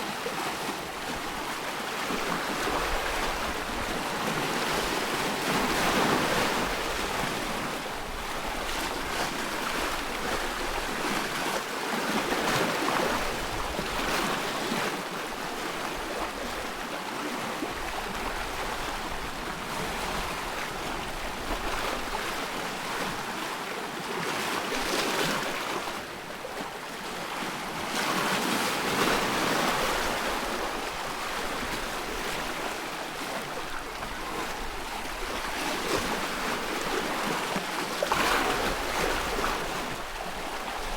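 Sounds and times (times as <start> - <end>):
waves splashing and lapping: 0.0 - 40.9
wind: 0.0 - 40.9.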